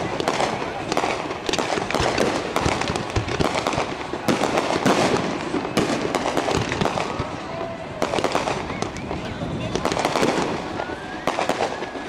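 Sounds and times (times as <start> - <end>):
deep firework booms: 0.0 - 12.0
firework bursts and crackling: 0.0 - 12.0.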